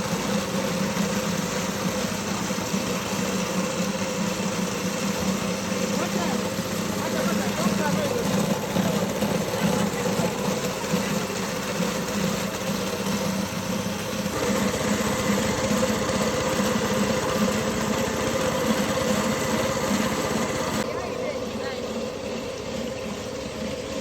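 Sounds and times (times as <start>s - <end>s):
engine running with pulsing: 0.0s - 24.0s.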